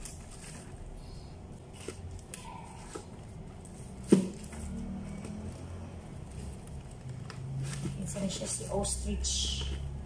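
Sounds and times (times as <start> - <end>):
cardboard rustling and tapping: 1.6 - 10.0.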